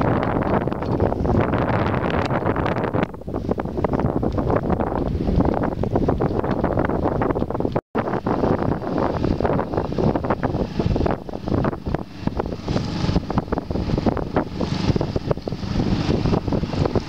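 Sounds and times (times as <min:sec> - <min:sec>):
choppy water rushing: 0:00.0 - 0:17.0
wind buffeting microphone: 0:00.0 - 0:17.0.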